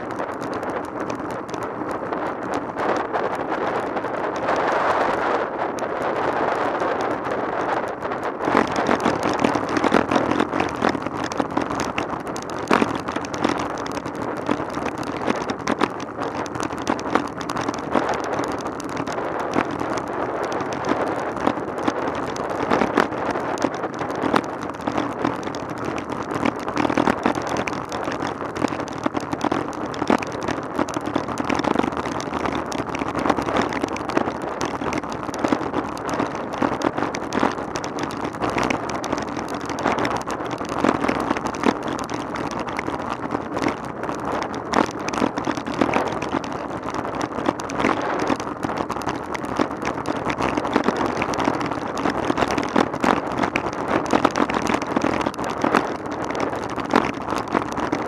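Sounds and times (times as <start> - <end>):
camera knocks and rattles: 0.0 - 4.5, 8.4 - 58.0
tyres on tarmac: 0.0 - 58.0
wind: 0.0 - 58.0.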